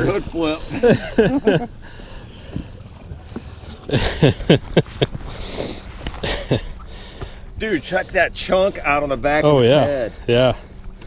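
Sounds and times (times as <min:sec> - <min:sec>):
choppy lake water: 0:00.0 - 0:11.0
wind: 0:00.0 - 0:11.0.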